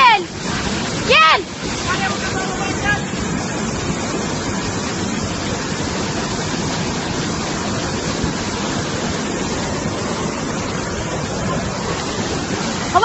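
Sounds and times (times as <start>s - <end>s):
floodwater rushing over waterfall: 0.0s - 13.0s.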